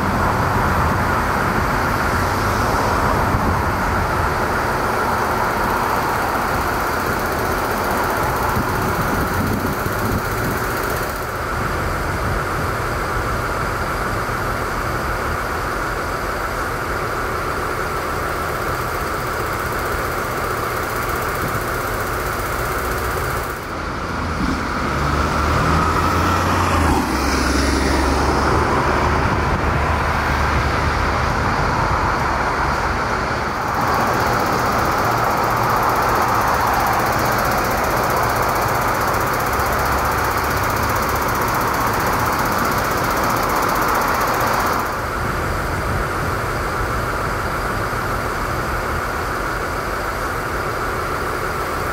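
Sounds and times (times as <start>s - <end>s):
heavy construction machinery running: 0.0s - 51.9s.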